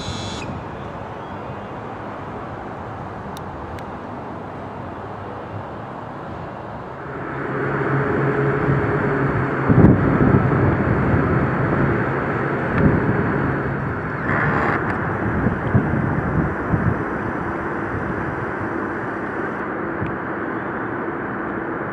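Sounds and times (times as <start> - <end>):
vehicle running hum: 0.0 - 21.9.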